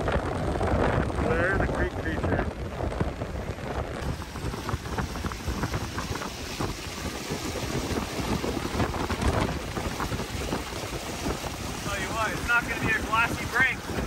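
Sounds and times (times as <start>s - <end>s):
water rushing and cascading: 0.0s - 14.0s.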